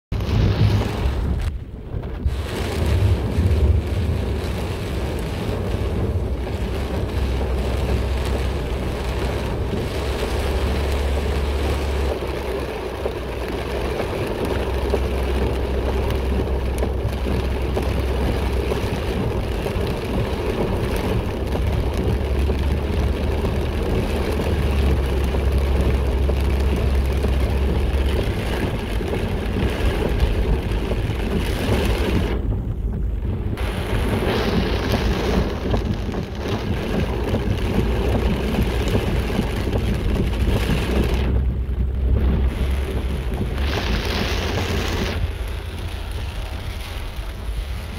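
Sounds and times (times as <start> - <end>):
car road and engine noise: 0.0 - 47.9
deep steady rumble: 0.1 - 47.9
heavy rain on car: 0.1 - 47.9.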